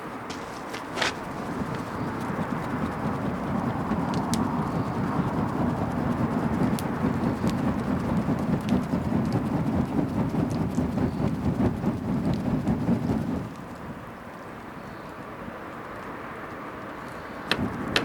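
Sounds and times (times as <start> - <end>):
bonfire crackling and popping: 0.3 - 14.8.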